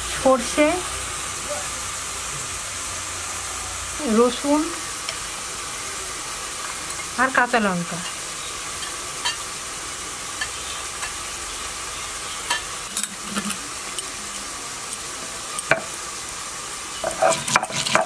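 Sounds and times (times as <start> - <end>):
prawns sizzling in oil: 0.0 - 18.0.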